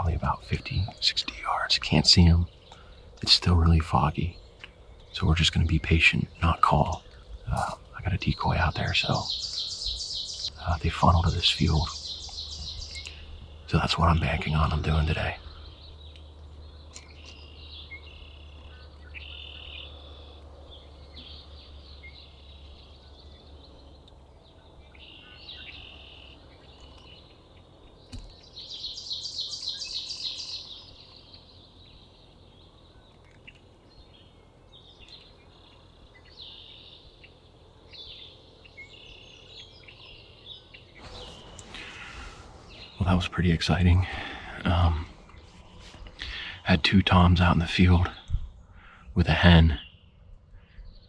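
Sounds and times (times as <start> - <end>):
songbirds chirping: 0.0 - 51.0
loud rapid bird trill: 0.4 - 33.0, 33.8 - 45.2.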